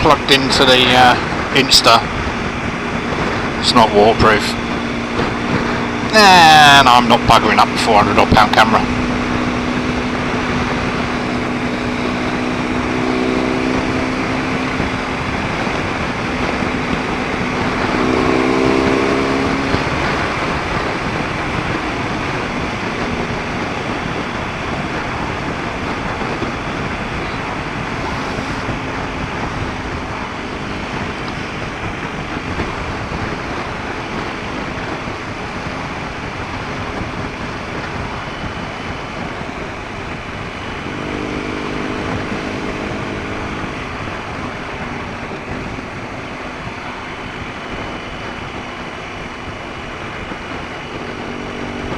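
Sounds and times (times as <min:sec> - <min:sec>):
motorcycle engine: 0:00.0 - 0:51.9
road noise: 0:00.0 - 0:51.9
wind rush: 0:00.0 - 0:51.9.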